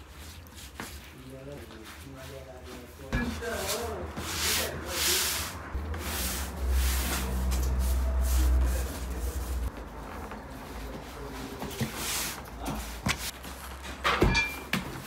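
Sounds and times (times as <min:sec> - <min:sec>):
hands rubbing dough on wood: 0:00.0 - 0:13.7.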